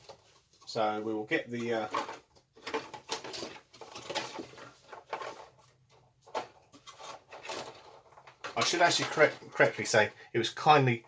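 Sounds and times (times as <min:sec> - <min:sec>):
rustling of handled objects: 0:00.0 - 0:11.0.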